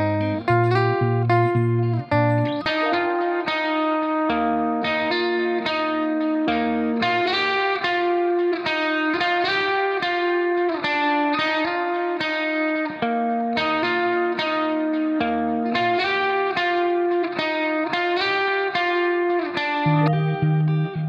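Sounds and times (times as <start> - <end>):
plucked guitar music: 0.0 - 21.0.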